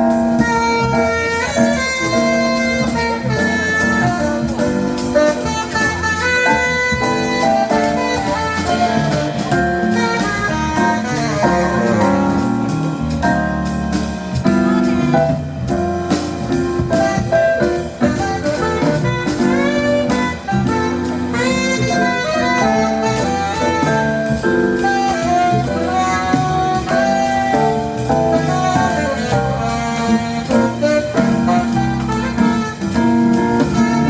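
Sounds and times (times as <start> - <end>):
bass: 0.0 - 34.0
drums: 0.0 - 34.0
saxophone melody: 0.0 - 34.0.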